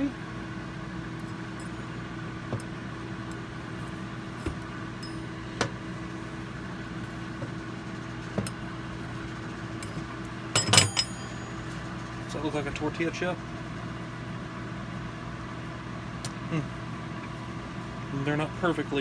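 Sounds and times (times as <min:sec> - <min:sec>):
air fryer fan humming: 0:00.0 - 0:19.0.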